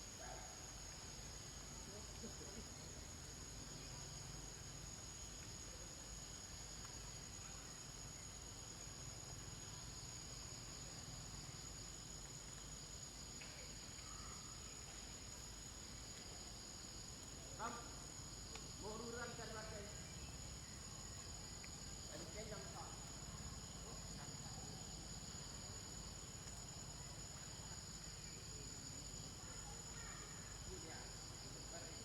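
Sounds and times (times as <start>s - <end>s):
insects chorus drone: 0.0s - 32.0s.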